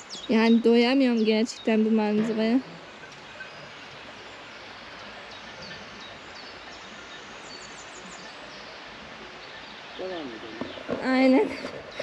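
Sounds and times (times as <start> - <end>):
small birds chirping: 0.0 - 12.0
steady outdoor hiss: 0.0 - 12.0.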